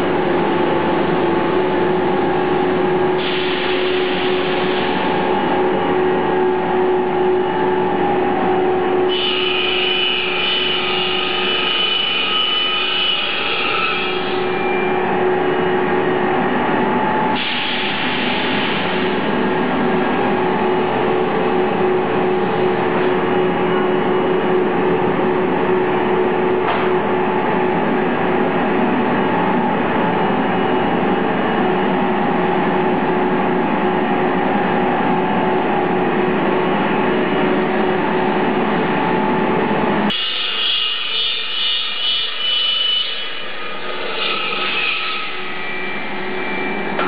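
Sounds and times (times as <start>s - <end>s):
machinery humming and whining: 0.0s - 47.0s.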